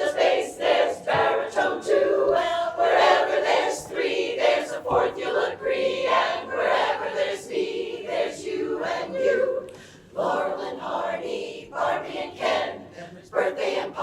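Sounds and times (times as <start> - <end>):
a cappella chorus singing: 0.0 - 14.0.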